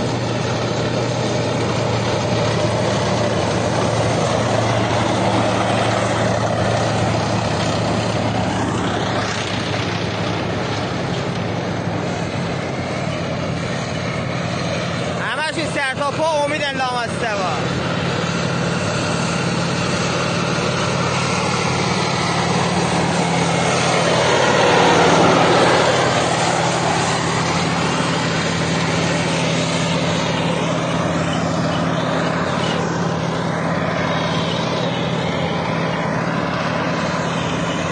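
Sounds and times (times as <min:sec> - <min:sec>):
tank engine driving past: 0:00.0 - 0:37.9.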